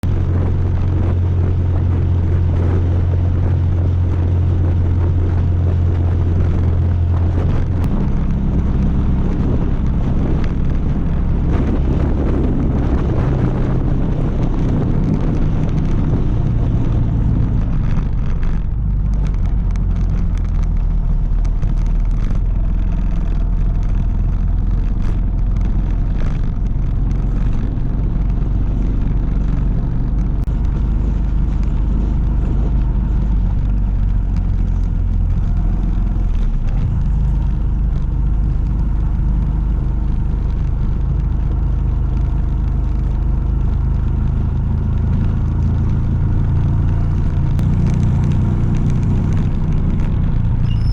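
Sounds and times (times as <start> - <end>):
vehicle engine droning: 0.0 - 50.9.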